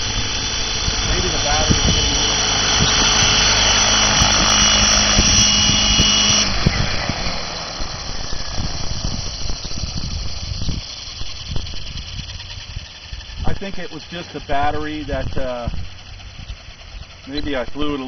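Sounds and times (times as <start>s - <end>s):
rc helicopter motor whining: 0.0s - 18.0s
rotor blades whooshing: 0.0s - 18.0s.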